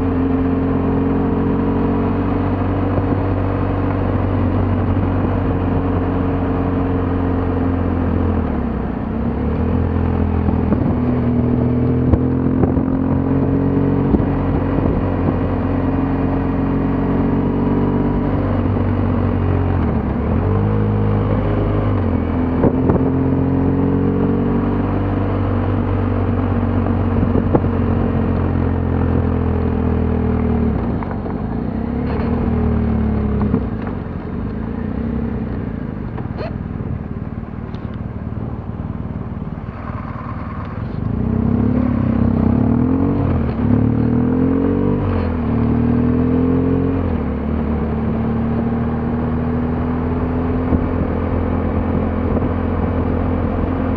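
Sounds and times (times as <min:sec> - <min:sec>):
motorcycle engine: 0:00.0 - 0:53.9
wind and road noise: 0:00.0 - 0:53.9.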